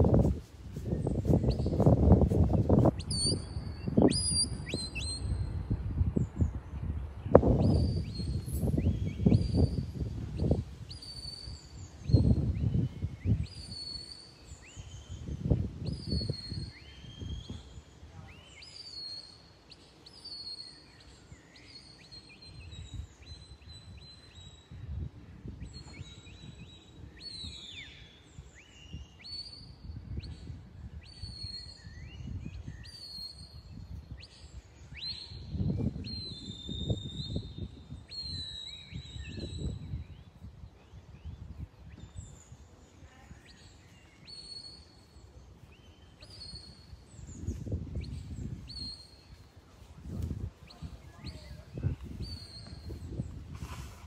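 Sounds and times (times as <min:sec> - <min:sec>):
wind buffeting microphone: 0:00.0 - 0:18.3, 0:22.0 - 0:54.0
birds singing: 0:00.8 - 0:54.0.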